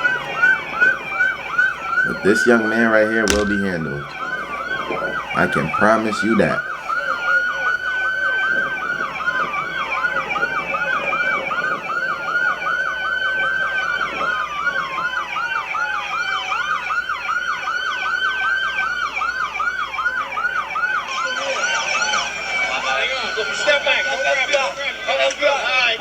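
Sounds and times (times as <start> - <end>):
police siren wailing: 0.0 - 26.0
police siren yelping: 0.0 - 26.0.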